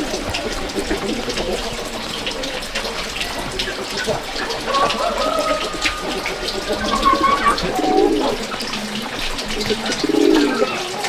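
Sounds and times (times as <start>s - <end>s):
low pulsing bird calls: 0.0s - 11.0s.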